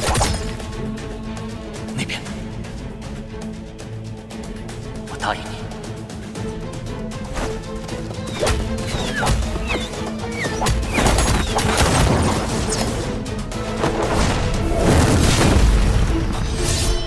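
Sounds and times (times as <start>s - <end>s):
dramatic score music: 0.0s - 17.0s.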